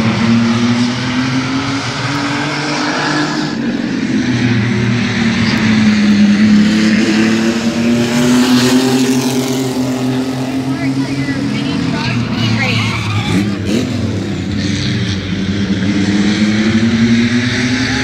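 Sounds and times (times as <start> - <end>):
racing truck engines: 0.0 - 18.0.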